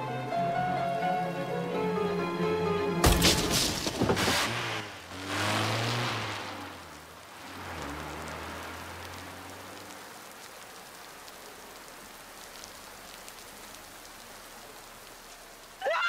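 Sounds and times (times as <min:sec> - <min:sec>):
car engine hum: 0:00.0 - 0:15.8
rain falling hard on street: 0:03.1 - 0:16.0.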